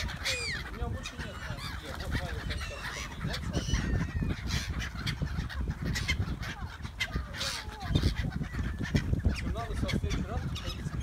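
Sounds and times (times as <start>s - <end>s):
gulls calling: 0.0s - 11.0s
wind rumble on microphone: 0.0s - 11.0s.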